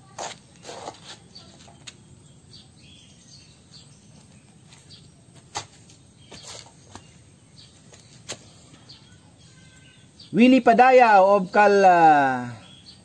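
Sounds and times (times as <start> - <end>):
bird chirps: 0.0 - 10.7, 12.6 - 13.0
low background noise: 0.0 - 13.0.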